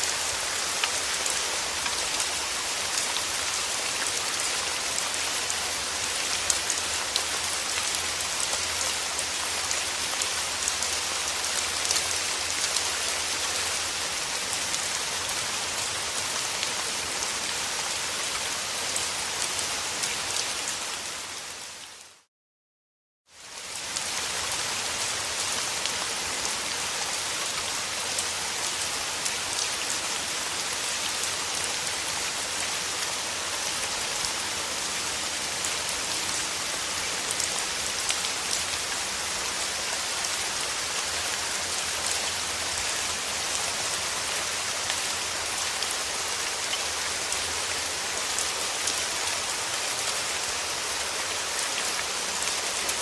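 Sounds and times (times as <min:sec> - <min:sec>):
rain pattering on a surface: 0:00.0 - 0:22.3, 0:23.4 - 0:53.0.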